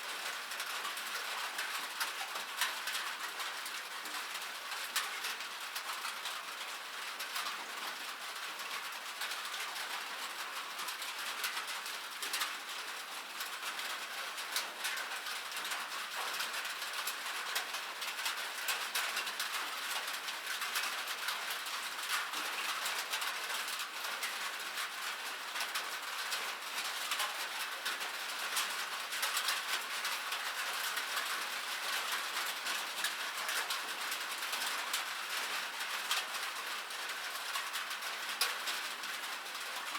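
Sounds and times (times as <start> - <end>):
rain falling on metal: 0.0 - 39.9.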